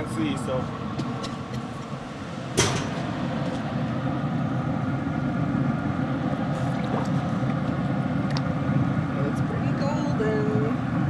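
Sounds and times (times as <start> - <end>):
grill fan humming: 0.0 - 11.0.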